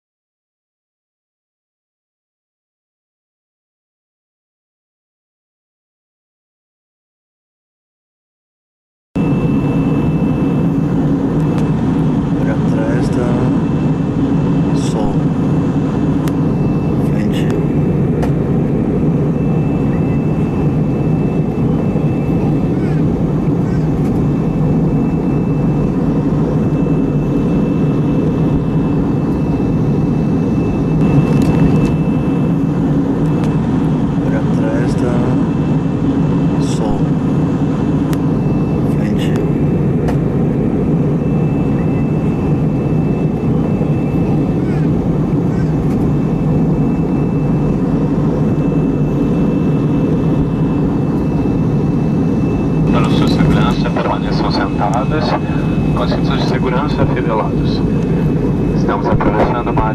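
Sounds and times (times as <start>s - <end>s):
airliner cabin roar: 9.2s - 59.9s
faint high whine: 9.2s - 59.9s.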